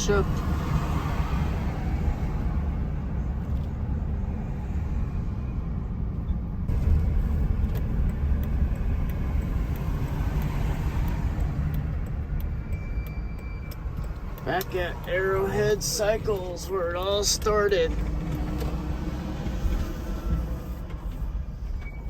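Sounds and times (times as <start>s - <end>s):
road and wind noise rumble: 0.0s - 22.0s.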